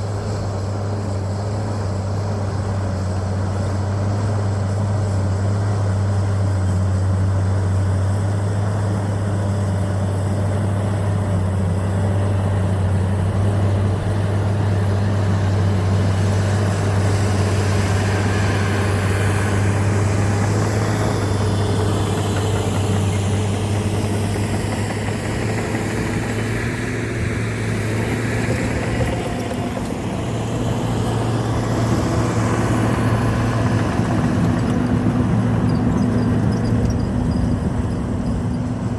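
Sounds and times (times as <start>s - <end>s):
bulldozer diesel engine droning: 0.0s - 38.9s.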